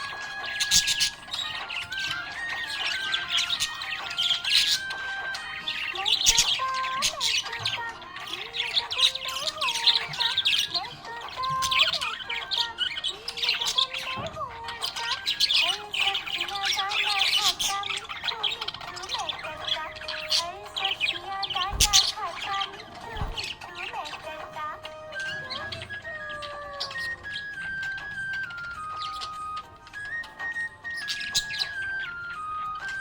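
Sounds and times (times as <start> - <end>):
budgerigar chirping and squawking: 0.0 - 33.0.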